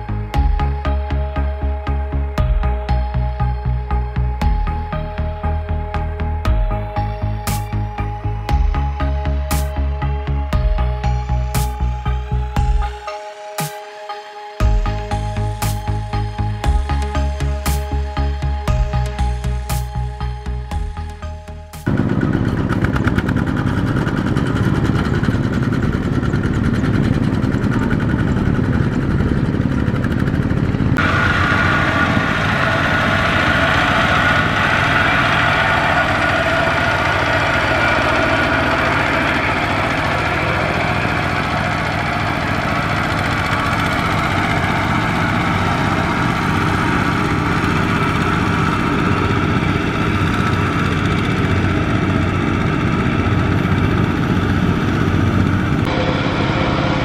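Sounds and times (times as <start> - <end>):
diesel tractor engines running: 0.0 - 57.0
high whine over engine: 0.0 - 57.0.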